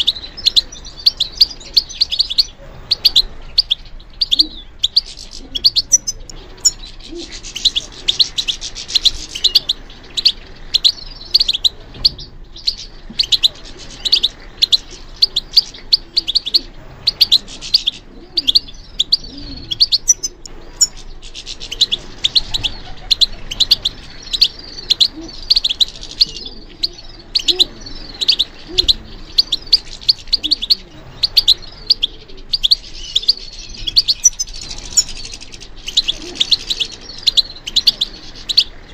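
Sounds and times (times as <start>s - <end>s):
goldfinch twittering song: 0.0s - 38.9s.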